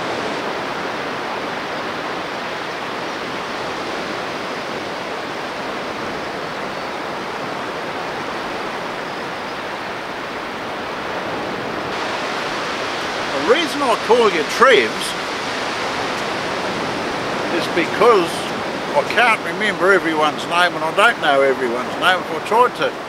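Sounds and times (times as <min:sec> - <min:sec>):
surf breaking on a beach: 0:00.0 - 0:23.0.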